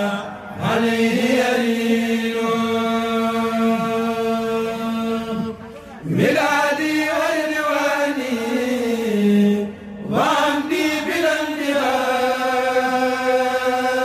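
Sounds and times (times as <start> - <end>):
group chanting religious poem: 0.0 - 14.0.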